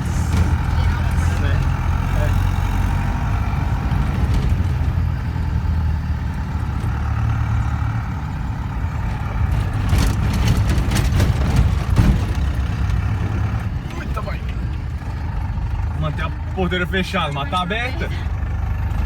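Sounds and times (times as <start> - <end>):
knocks and rattles over bumps: 0.0 - 17.6
engine and tyre rumble: 0.0 - 19.0.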